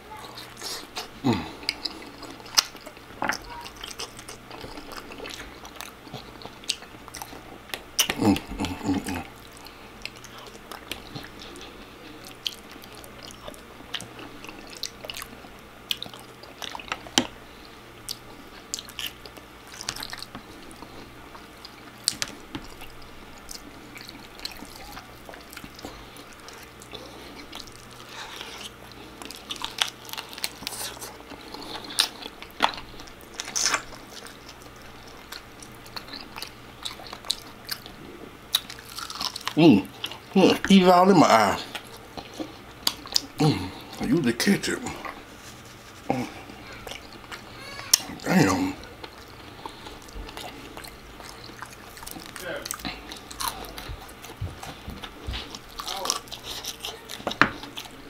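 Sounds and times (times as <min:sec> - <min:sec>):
person chewing and biting food: 0:00.1 - 0:58.0.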